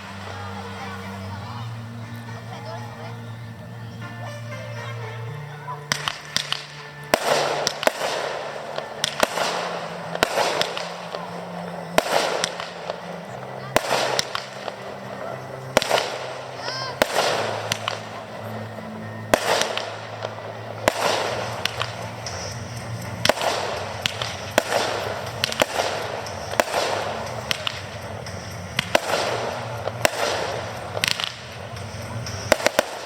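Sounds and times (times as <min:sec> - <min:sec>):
fireworks bangs: 0:00.0 - 0:33.0
fireworks crackling: 0:00.0 - 0:33.0.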